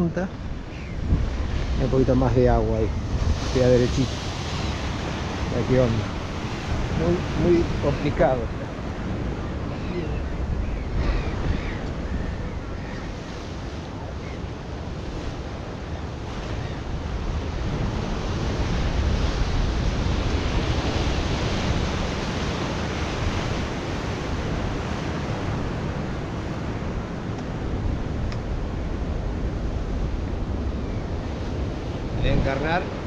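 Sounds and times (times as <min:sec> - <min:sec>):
waves breaking on rocks: 0:00.0 - 0:29.7.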